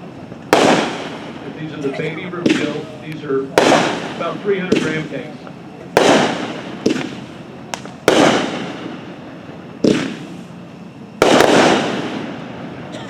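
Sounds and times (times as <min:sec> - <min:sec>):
firework sharp bangs: 0:00.0 - 0:13.0.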